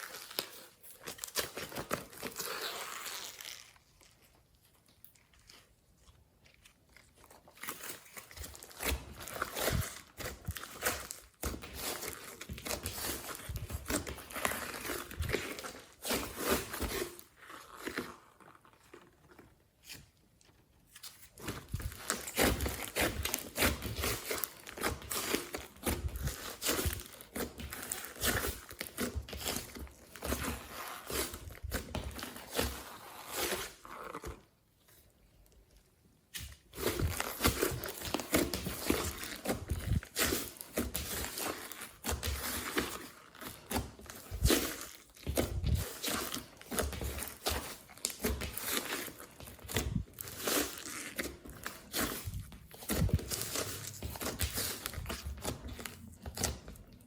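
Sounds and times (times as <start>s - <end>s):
slime crackling and squelching: 0.0s - 57.0s.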